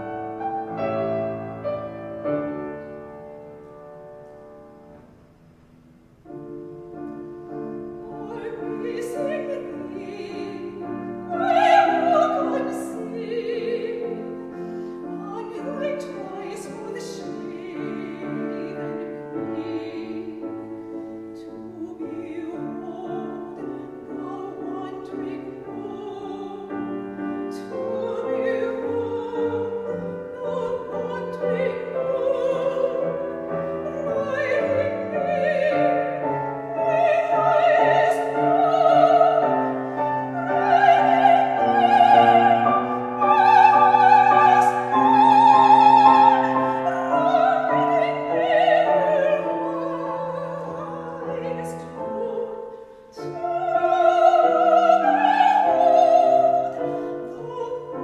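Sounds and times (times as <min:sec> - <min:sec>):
piano: 0:00.0 - 0:58.0
soprano singing with vibrato: 0:06.4 - 0:58.0.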